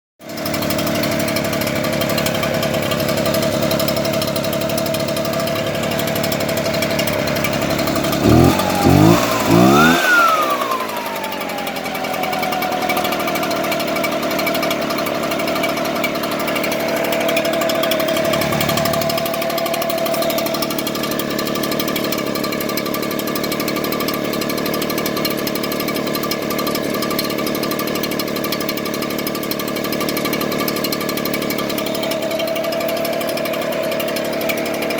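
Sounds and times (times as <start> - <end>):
leaf blower engine idling and revving: 0.2 - 34.9.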